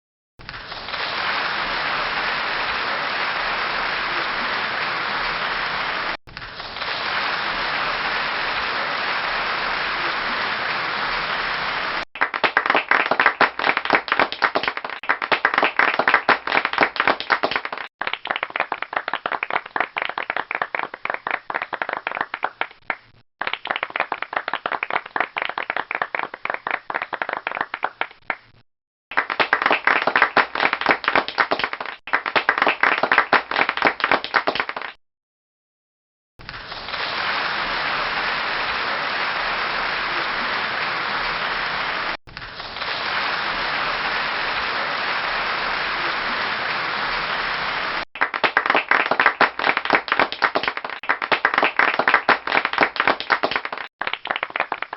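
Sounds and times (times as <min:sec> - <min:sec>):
applause: 0:00.4 - 0:35.0, 0:36.4 - 0:54.9
bursts of clapping: 0:00.4 - 0:35.0, 0:36.4 - 0:54.9.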